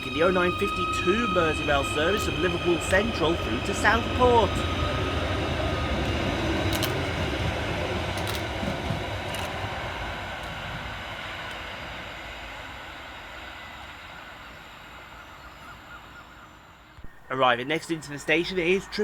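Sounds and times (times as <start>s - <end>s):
electric train pulling away: 0.0s - 19.0s.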